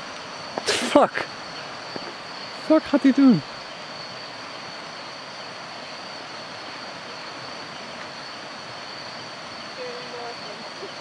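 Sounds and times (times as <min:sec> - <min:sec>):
even hiss: 0:00.0 - 0:11.0
high-pitched insect drone: 0:00.0 - 0:11.0.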